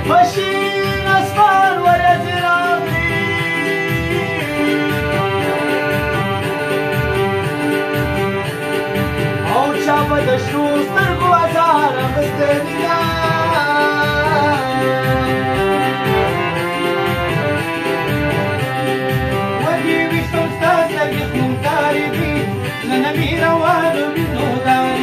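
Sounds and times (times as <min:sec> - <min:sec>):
man singing: 0:00.0 - 0:06.2, 0:09.4 - 0:18.0, 0:19.5 - 0:25.0
harmonium playing chords: 0:00.0 - 0:25.0.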